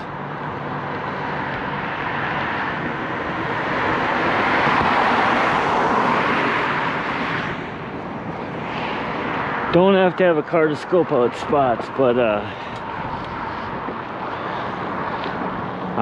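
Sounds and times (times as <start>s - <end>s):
vehicle tyre and road noise: 0.0s - 16.0s.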